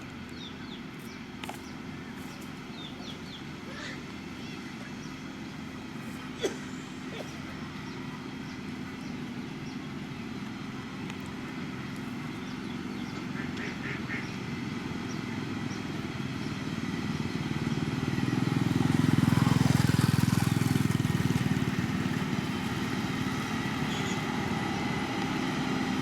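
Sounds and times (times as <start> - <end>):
heavy machinery diesel engine: 0.0 - 26.0.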